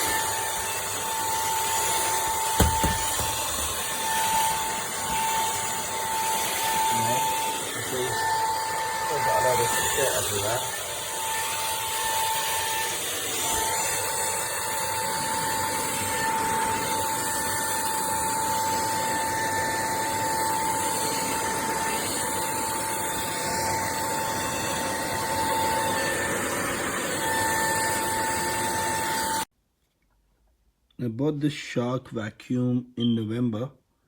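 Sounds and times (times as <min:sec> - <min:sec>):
vacuum cleaner running: 0:00.0 - 0:29.5.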